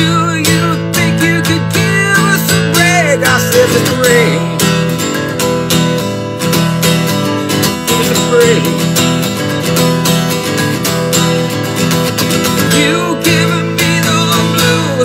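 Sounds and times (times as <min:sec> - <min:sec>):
strummed acoustic guitar: 0:00.0 - 0:15.0
bending melody line: 0:00.1 - 0:15.0.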